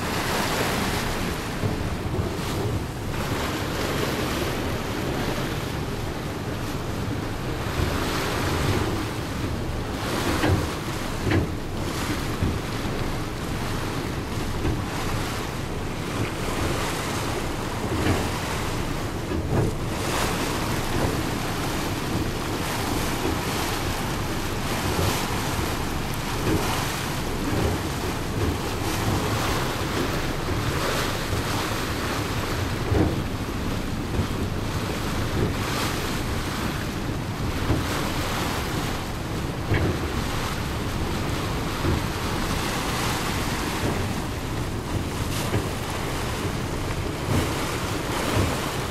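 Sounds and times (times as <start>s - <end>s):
water slapping: 0.0s - 48.9s
water splashing along hull: 0.0s - 48.9s
wind on microphone: 0.0s - 48.9s.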